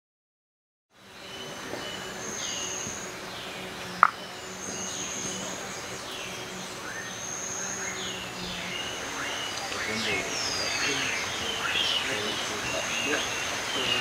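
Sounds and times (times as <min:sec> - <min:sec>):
birds calling: 0:00.9 - 0:14.0
high steady whistling tones: 0:01.0 - 0:14.0.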